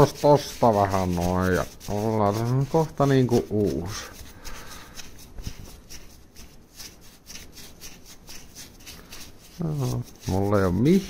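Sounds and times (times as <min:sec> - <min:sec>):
scratchy rubbing strokes: 0:00.0 - 0:11.0.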